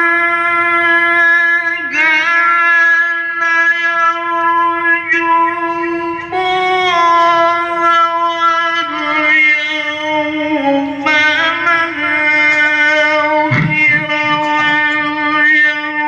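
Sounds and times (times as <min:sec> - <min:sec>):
man chanting through microphone: 0:00.0 - 0:16.0.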